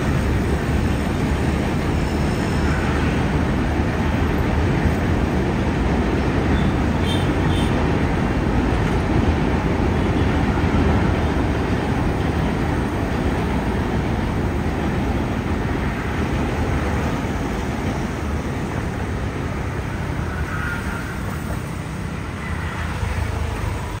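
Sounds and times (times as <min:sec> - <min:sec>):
train rumbling across steel bridge: 0:00.0 - 0:24.0.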